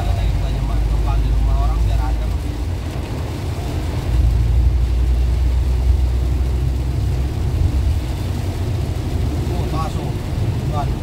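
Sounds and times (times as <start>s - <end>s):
car engine rumbling: 0.0s - 11.0s
water and rain noise: 0.0s - 11.0s.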